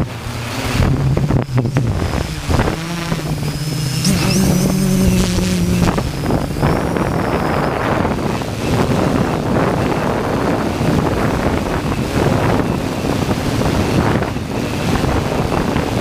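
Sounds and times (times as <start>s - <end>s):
drone propellers droning: 0.0s - 16.0s
wind buffeting microphone: 0.0s - 16.0s.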